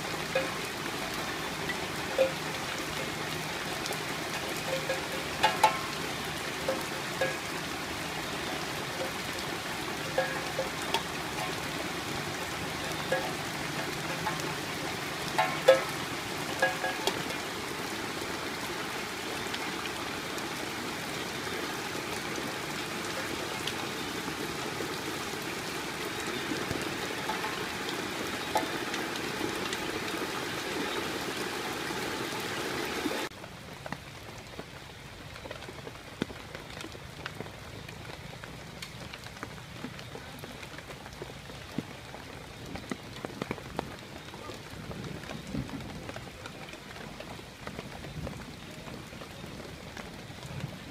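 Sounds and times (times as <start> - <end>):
floodwater rushing: 0.0 - 50.9
rain falling on water and leaves: 0.0 - 50.9.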